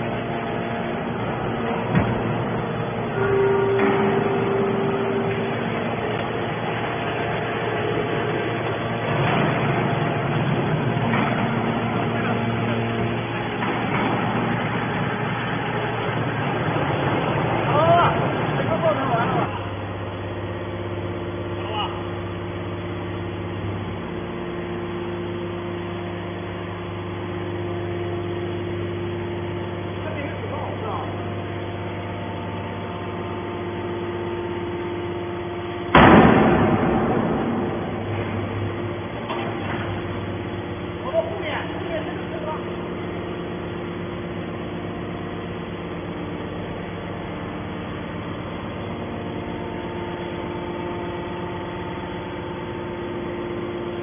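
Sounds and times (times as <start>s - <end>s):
hydraulic baler running: 0.0s - 54.0s.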